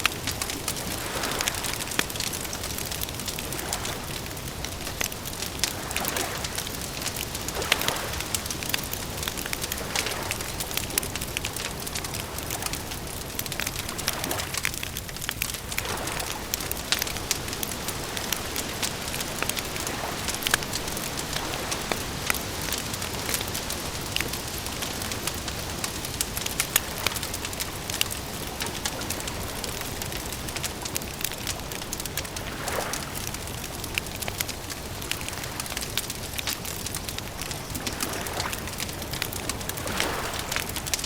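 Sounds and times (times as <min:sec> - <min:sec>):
campfire crackling: 0:00.0 - 0:41.0
steady fire hiss: 0:00.0 - 0:41.0.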